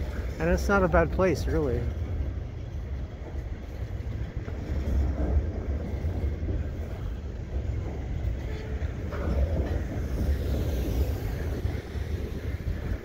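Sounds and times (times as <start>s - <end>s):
freight cars rolling over overpass: 0.0s - 13.0s.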